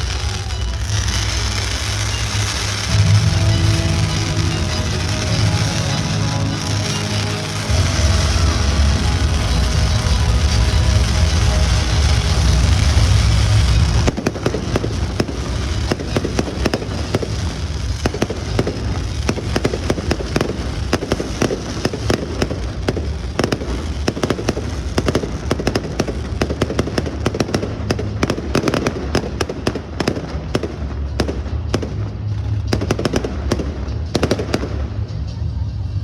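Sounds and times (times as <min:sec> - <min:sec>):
fireworks crackling and popping: 0:00.0 - 0:36.0.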